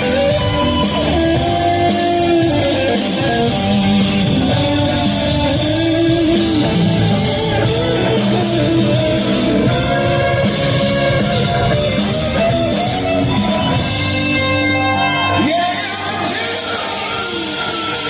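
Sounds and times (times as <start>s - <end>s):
electric guitar: 0.0s - 18.0s
live rock band playing: 0.0s - 18.0s.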